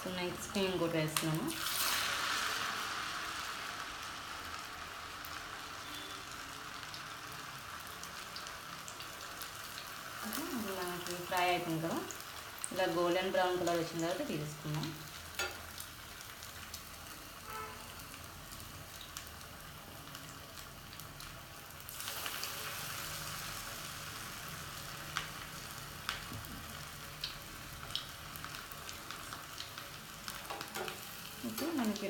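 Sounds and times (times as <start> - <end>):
food sizzling in frying oil: 0.0 - 32.0.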